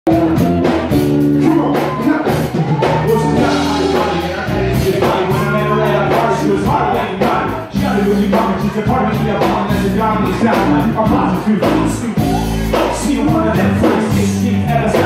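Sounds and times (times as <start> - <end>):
bass guitar: 0.0 - 15.0
electric guitar: 0.1 - 15.0
steady drum beat: 0.1 - 15.0
man singing into a microphone: 1.4 - 15.0.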